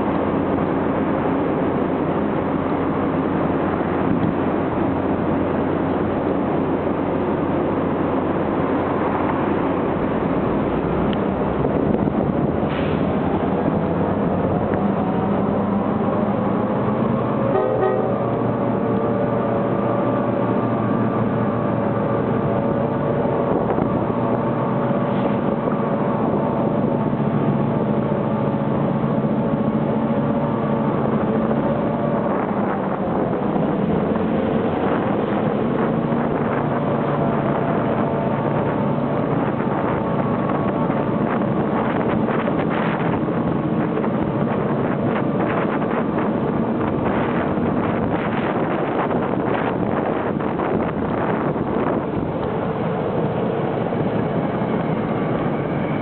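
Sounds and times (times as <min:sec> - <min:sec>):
diesel locomotive engines running hard: 0:00.0 - 0:56.0
wind buffeting microphone: 0:00.0 - 0:56.0.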